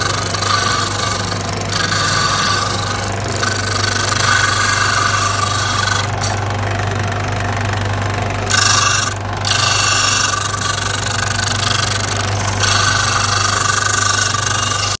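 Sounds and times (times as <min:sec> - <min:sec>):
disc sander motor hum: 0:00.0 - 0:15.0.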